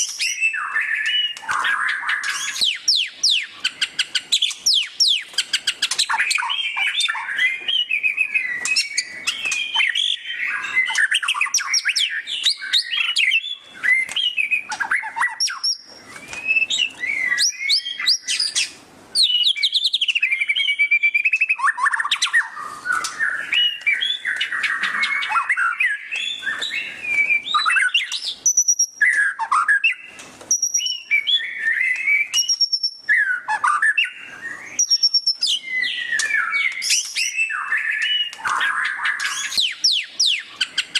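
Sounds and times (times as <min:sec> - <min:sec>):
bird singing fast chattering song: 0:00.0 - 0:40.9.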